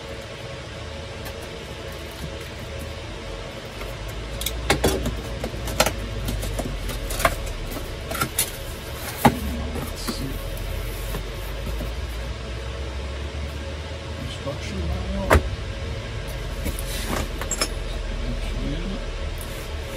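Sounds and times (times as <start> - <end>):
low hum: 0.0 - 19.9.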